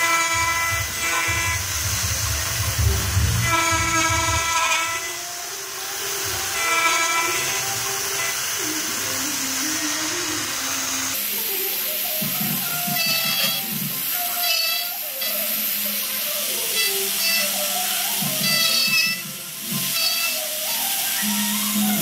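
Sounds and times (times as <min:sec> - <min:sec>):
air nozzle hiss: 0:00.0 - 0:22.0
mill cutting whine: 0:00.0 - 0:22.0.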